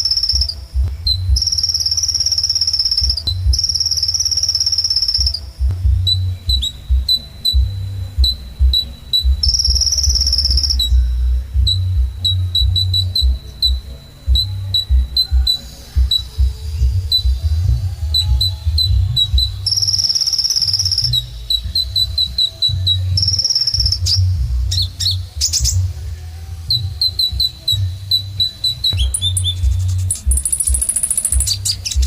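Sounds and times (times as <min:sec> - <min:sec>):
bird singing high sharp chips: 0:00.0 - 0:26.0, 0:26.7 - 0:32.0
buzzy bird trill: 0:00.0 - 0:32.0
low pulsing rumble: 0:00.0 - 0:32.0.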